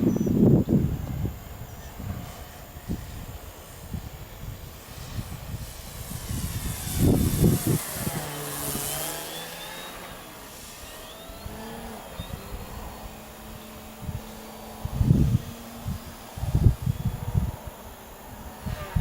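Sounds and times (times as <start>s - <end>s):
model plane flying past: 0.0s - 19.0s
wind buffeting microphone: 0.0s - 19.0s.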